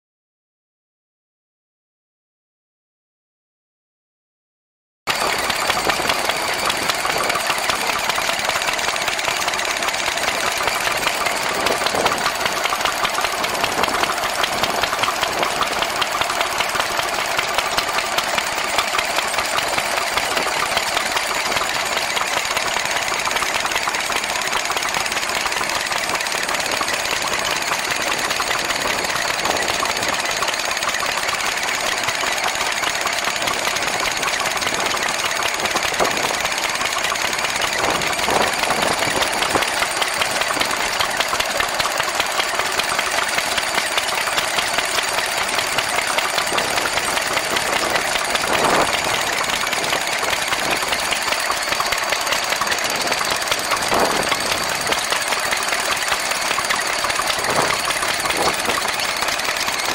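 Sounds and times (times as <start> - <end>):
stationary engine knocking steadily: 5.1 - 59.9.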